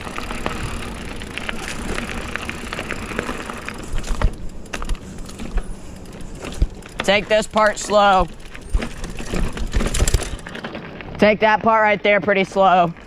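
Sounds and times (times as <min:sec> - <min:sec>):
bike rattling and clicking: 0:00.0 - 0:13.0
bike tyres rolling on dirt: 0:00.0 - 0:13.0.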